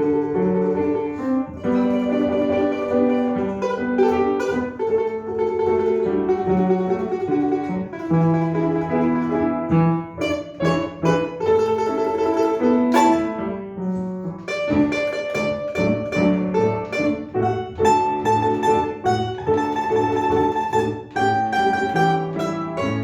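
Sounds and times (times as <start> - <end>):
plucked string instrument melody: 0.0 - 23.0.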